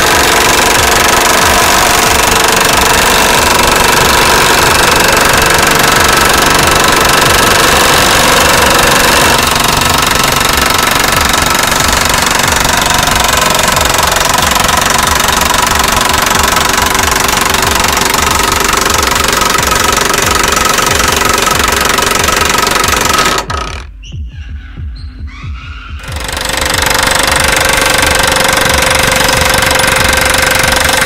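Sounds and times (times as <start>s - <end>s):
impact wrench rattling: 0.0s - 24.0s, 26.0s - 31.0s.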